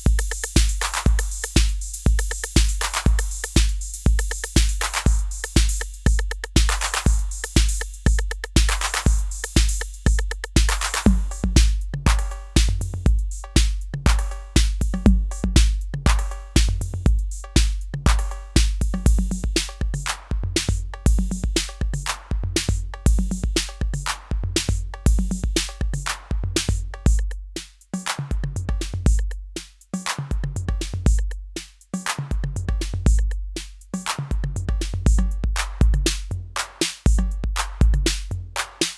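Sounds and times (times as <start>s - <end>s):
drum machine bass drum: 0.0s - 38.9s
hi-hat and cymbal hits: 0.0s - 38.9s
pitched percussion: 0.0s - 38.9s.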